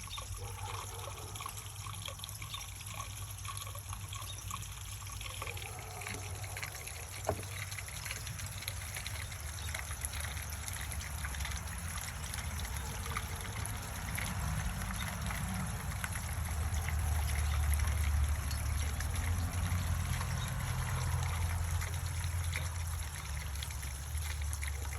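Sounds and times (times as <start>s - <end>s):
small water drips: 0.0s - 24.9s
water trickling down rain chain: 0.0s - 24.9s.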